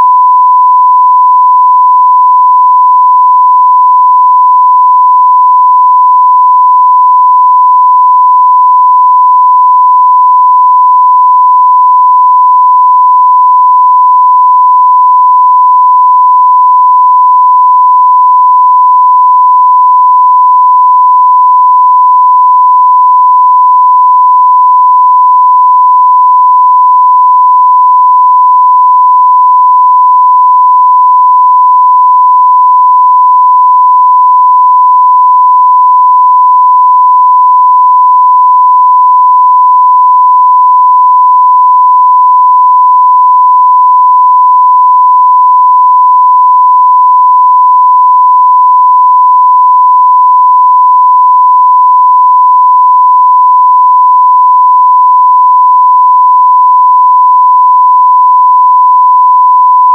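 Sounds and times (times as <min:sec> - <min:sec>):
sine wave test tone: 0:00.0 - 0:59.9.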